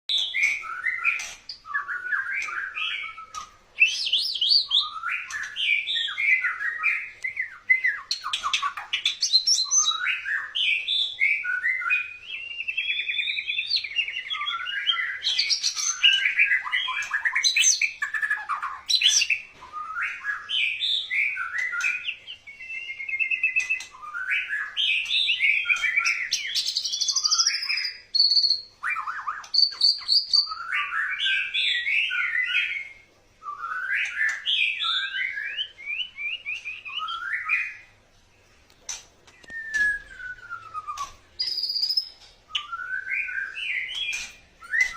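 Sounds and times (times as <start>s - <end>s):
songbird singing whistles and trills: 0.1s - 38.0s, 38.9s - 44.9s.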